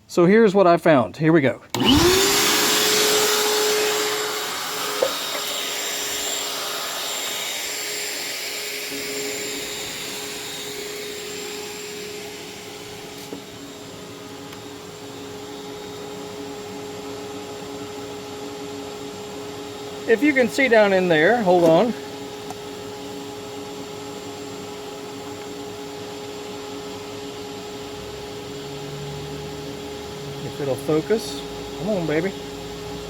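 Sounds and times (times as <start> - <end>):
shop vac motor whine: 1.7 - 33.0.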